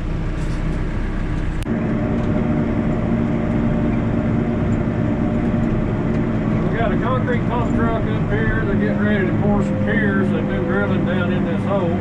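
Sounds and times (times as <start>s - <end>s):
diesel engine running: 0.0s - 12.0s
steady hum: 0.0s - 12.0s.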